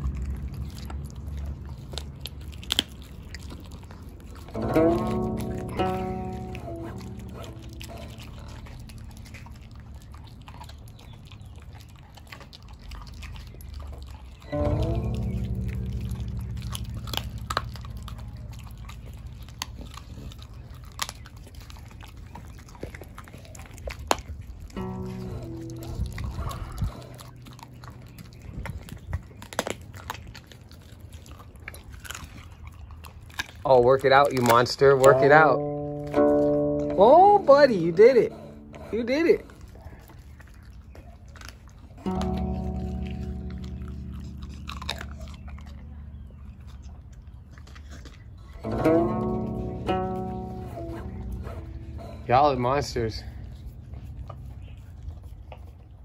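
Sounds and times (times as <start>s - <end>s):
dog chewing a bone: 0.0s - 56.0s
teeth crunching on bone: 0.0s - 56.0s.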